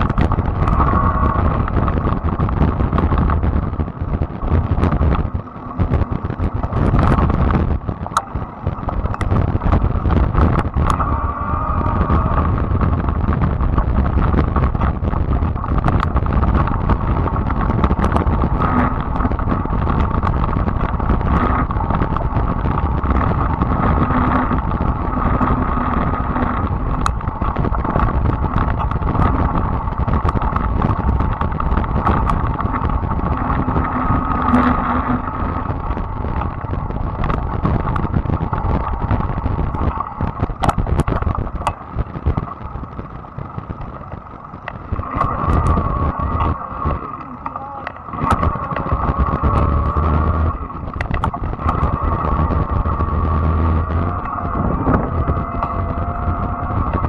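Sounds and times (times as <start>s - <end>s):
e-bike motor whine: 0.0s - 57.0s
wind buffeting microphone: 0.0s - 57.0s.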